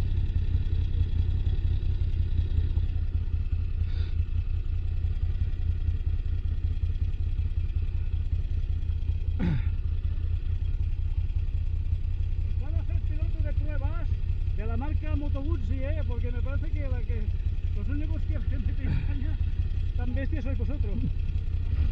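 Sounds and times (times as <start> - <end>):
motorcycle engine running at low revs: 0.0 - 21.9.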